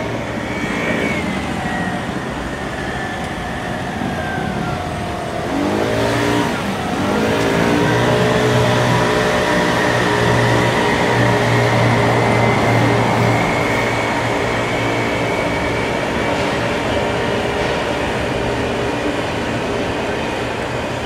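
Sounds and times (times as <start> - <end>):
motor whine: 0.0 - 21.0
wind noise: 0.0 - 21.0.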